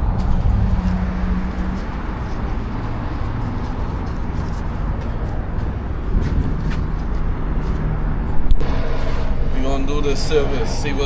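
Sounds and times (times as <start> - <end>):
condenser fan whoosh: 0.0 - 11.0
low hum: 0.0 - 11.0.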